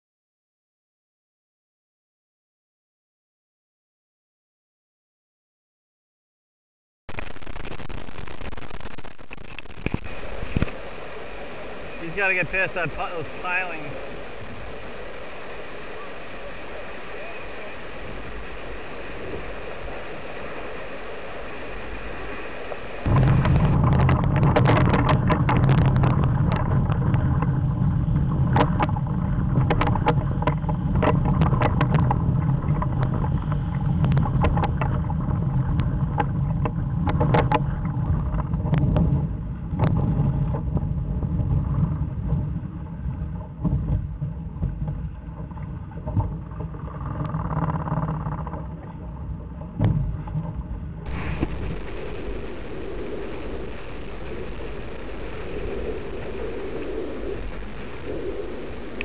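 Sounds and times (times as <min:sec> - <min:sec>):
rushing water: 0:07.1 - 0:59.0
water splashing against hull: 0:07.2 - 0:59.0
wind buffeting microphone: 0:09.9 - 0:59.0.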